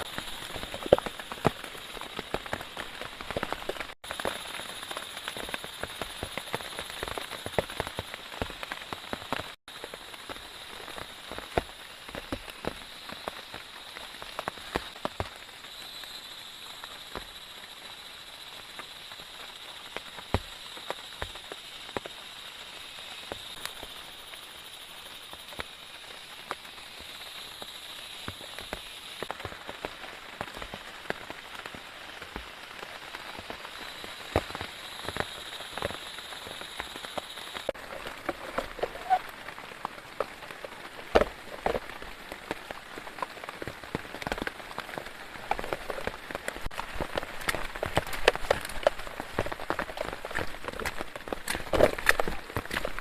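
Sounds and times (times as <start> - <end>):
raindrops tapping on a surface: 0.0 - 17.9, 18.5 - 53.0.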